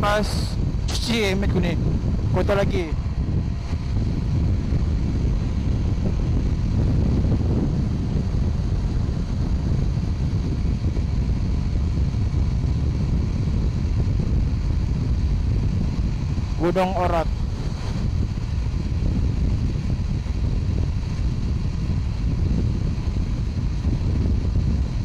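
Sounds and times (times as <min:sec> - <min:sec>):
motorcycle engine cruising: 0:00.0 - 0:25.0
wind rushing over microphone: 0:00.0 - 0:25.0.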